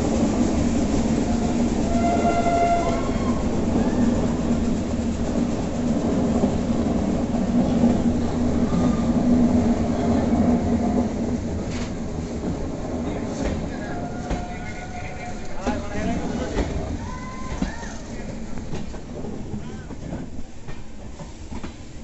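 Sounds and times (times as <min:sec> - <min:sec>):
train rumbling through tunnel: 0:00.0 - 0:22.0.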